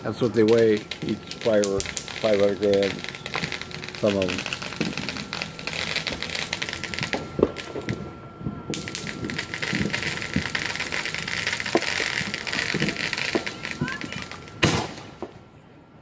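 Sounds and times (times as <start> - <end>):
fireworks bangs: 0.0 - 15.6
distant fireworks crackling: 0.0 - 15.9.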